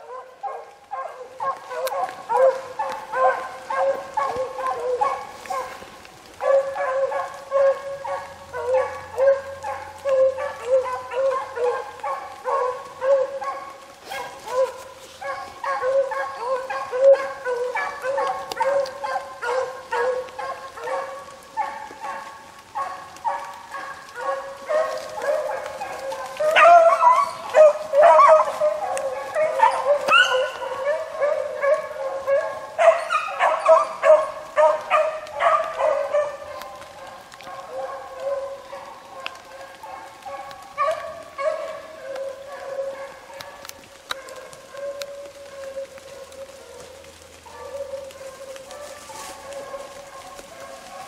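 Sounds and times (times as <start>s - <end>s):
pack of hounds baying: 0.0s - 51.0s.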